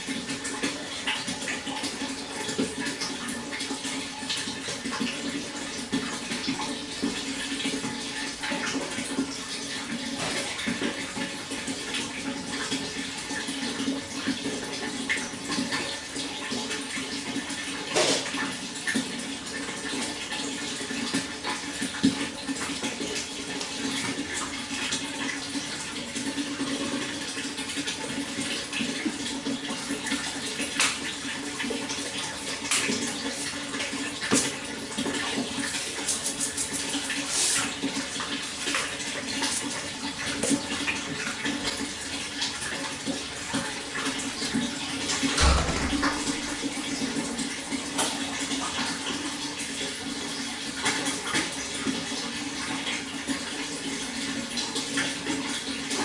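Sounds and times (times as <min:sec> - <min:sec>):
small splashes and drips: 0:00.0 - 0:56.0
water flowing and splashing: 0:00.0 - 0:56.0.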